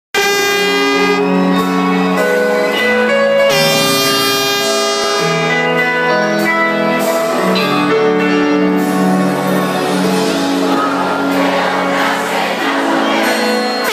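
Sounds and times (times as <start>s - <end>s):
live band playing: 0.2s - 13.9s.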